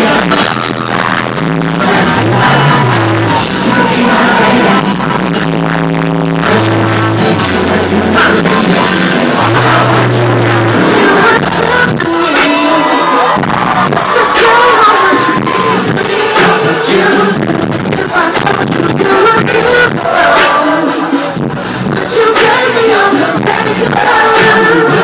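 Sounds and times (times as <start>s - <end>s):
live pop music over sound system: 0.0s - 25.0s
man singing: 0.0s - 25.0s
synth bass notes: 0.0s - 25.0s.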